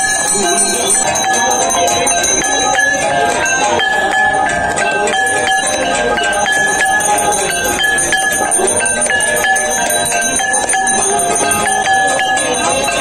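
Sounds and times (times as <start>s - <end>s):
hand bells ringing rapidly: 0.0s - 13.0s.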